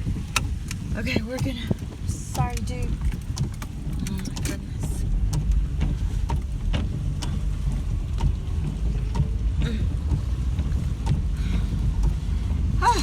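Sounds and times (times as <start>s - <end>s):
rain rumbling on a car: 0.0s - 13.0s
raindrops ticking on car body: 0.0s - 13.0s.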